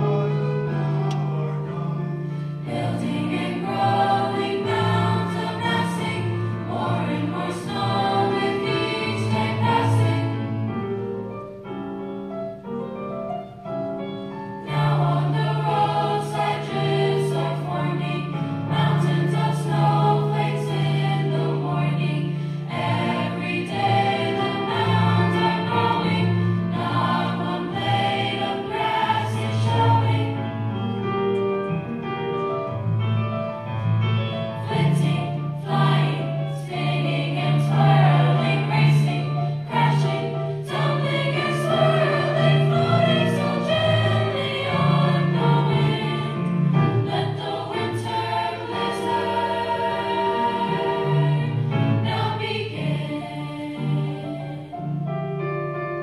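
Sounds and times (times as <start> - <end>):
choir singing in parts: 0.0 - 10.9, 14.4 - 30.8, 34.5 - 55.2.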